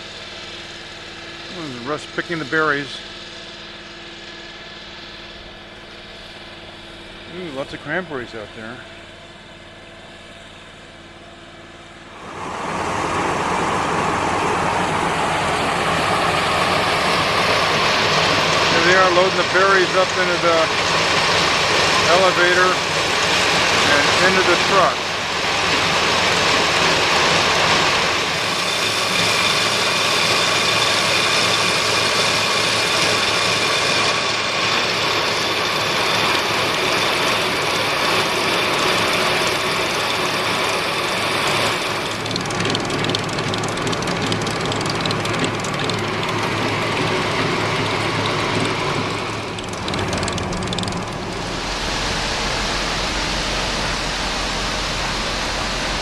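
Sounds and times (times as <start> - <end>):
engine-driven conveyor running: 0.0 - 56.0.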